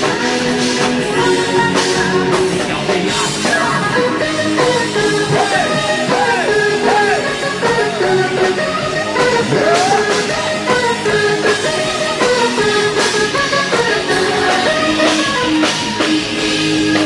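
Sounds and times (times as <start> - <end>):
drum kit: 0.0 - 17.0
electric guitars: 0.0 - 17.0
person singing: 0.0 - 17.0.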